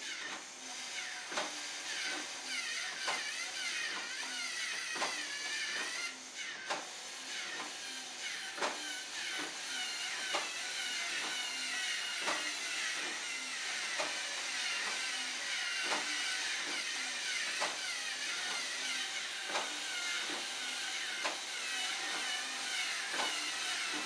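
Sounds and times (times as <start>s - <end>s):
electric motors whirring: 0.0s - 24.0s.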